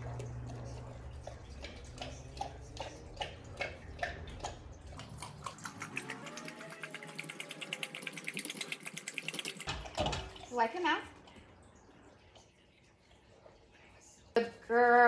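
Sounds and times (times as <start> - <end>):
dog lapping water: 0.0 - 14.0
low steady hum: 0.0 - 15.0.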